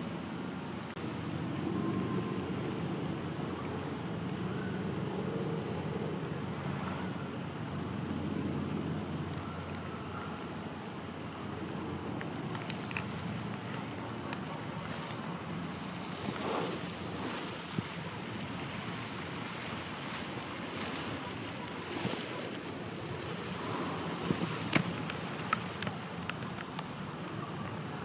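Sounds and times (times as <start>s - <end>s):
wind on microphone: 1.1s - 28.0s.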